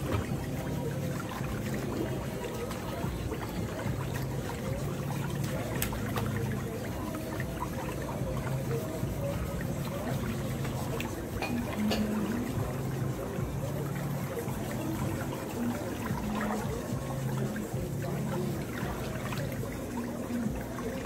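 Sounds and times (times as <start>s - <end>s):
whirlpool jets churning water: 0.0s - 21.0s.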